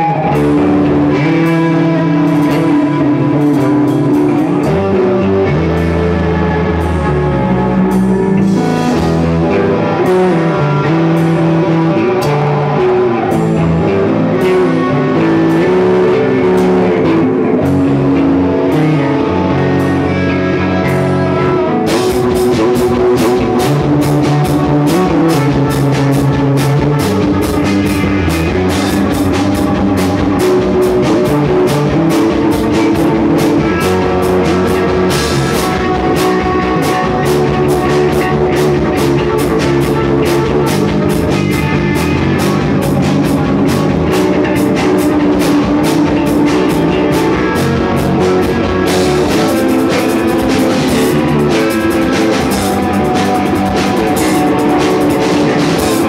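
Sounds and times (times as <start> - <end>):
rock music with guitar and drums: 0.0 - 56.0.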